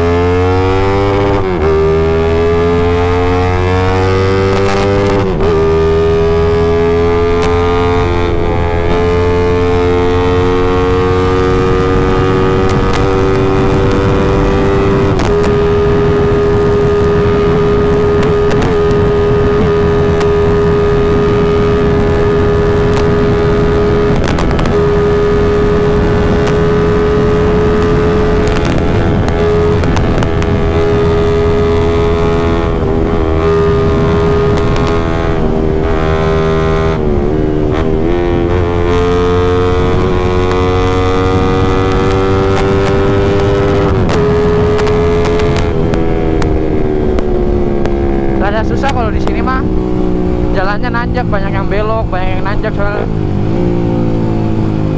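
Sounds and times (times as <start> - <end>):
motorcycle engine at high revs: 0.0 - 54.9.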